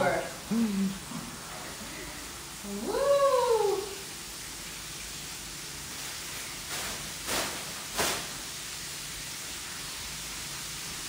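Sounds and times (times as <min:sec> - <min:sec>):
chicken sizzling in hot oil: 0:01.3 - 0:11.0.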